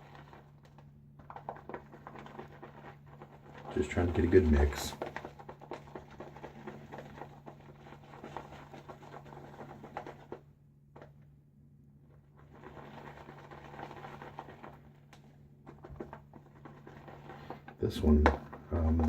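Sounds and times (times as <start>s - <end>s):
shaving brush swirling lather: 0.0s - 10.4s, 12.3s - 19.0s.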